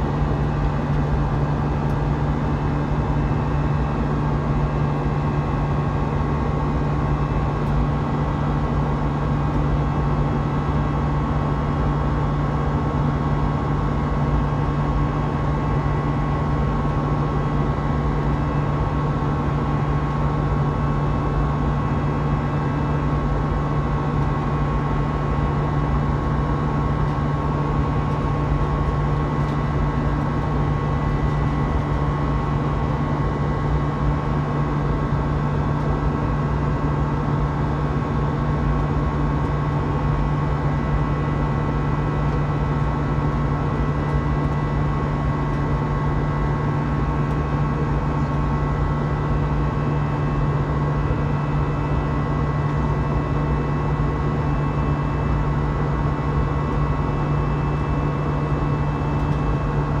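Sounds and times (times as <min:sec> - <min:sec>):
airplane cabin engine drone: 0:00.0 - 1:00.0.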